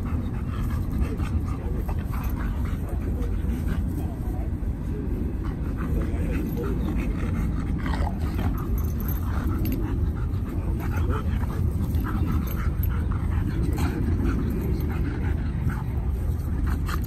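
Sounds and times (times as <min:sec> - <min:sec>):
dogs playing: 0:00.0 - 0:17.0
steady low rumble: 0:00.0 - 0:17.0.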